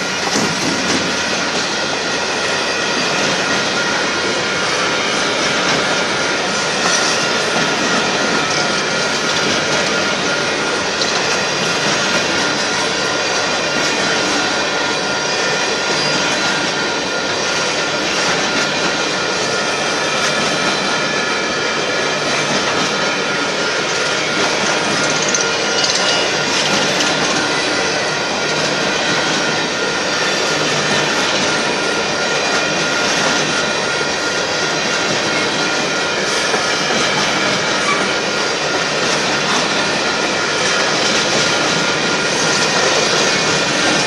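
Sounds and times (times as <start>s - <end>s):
rattling train cars: 0.0s - 44.0s
train wheels on rails: 0.0s - 44.0s.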